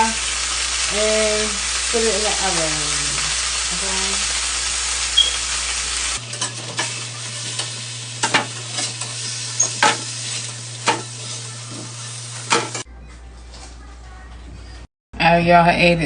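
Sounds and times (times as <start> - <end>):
chicken sizzling in a pan: 0.0 - 12.9.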